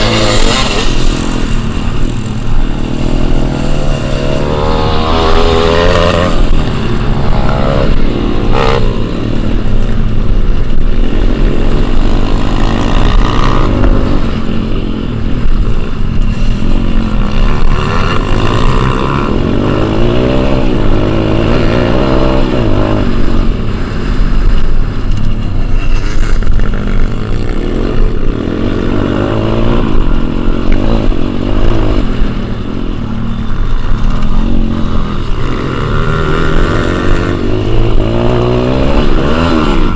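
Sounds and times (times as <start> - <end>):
dirt bike engine revving: 0.0 - 25.1, 25.8 - 39.9
wind rumbling on microphone: 0.0 - 39.9.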